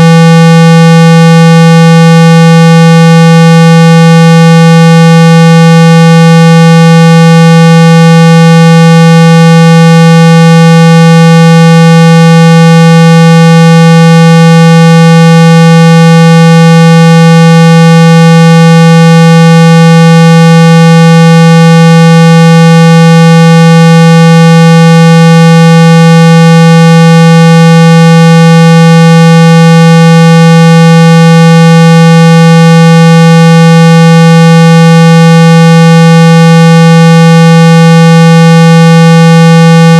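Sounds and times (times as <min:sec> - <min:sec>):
loud steady speaker tone: 0:00.0 - 0:39.9.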